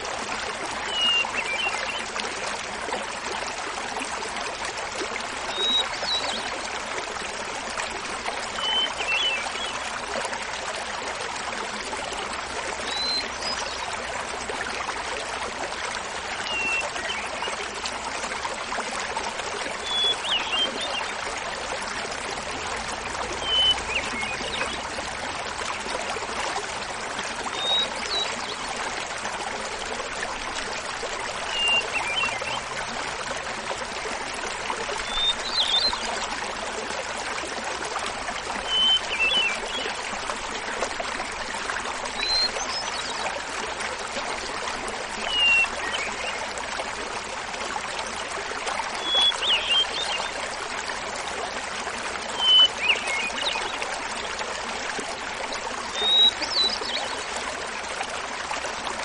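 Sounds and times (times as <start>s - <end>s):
small waterfall running: 0.0s - 59.0s.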